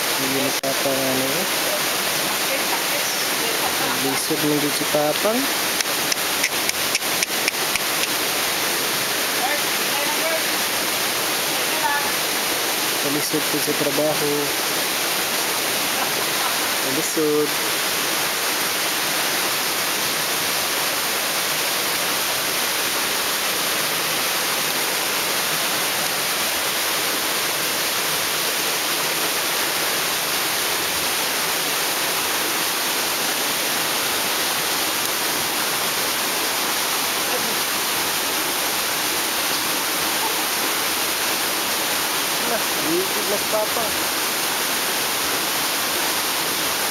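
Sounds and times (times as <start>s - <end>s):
river rushing over stones: 0.0s - 46.9s.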